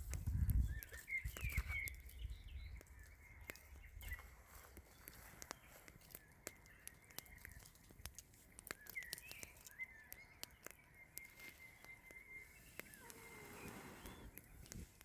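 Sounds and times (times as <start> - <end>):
faint birds chirping: 0.0 - 15.0
small clicks and crackles: 0.0 - 15.0.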